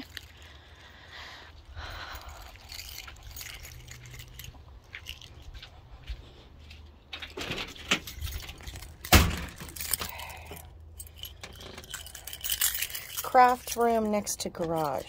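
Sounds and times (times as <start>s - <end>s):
keys jangling at door lock: 0.0s - 1.0s, 1.8s - 6.1s, 7.2s - 15.0s.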